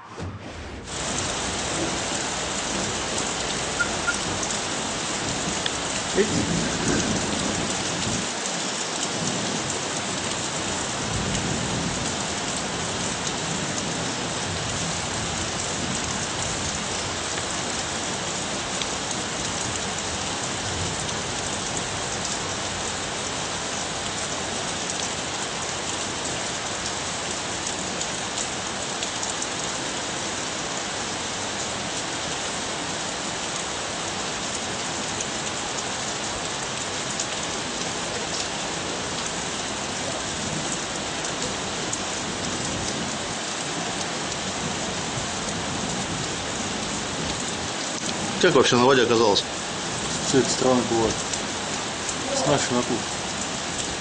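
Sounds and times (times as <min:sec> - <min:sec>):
heavy rain on water: 0:00.0 - 0:54.0.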